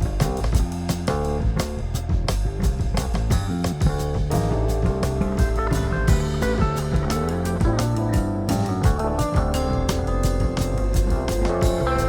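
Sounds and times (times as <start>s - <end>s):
band music with guitar and drums: 0.0s - 12.0s.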